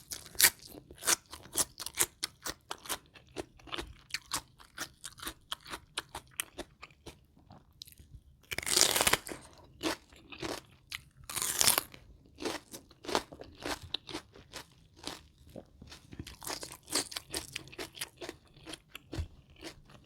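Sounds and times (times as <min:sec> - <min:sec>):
crunching and chewing crisp food: 0:00.0 - 0:20.0.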